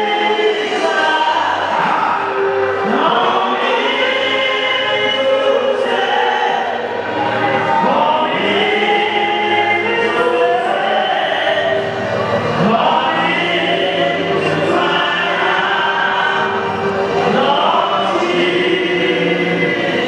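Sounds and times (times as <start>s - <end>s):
congregation singing a hymn: 0.0s - 20.0s.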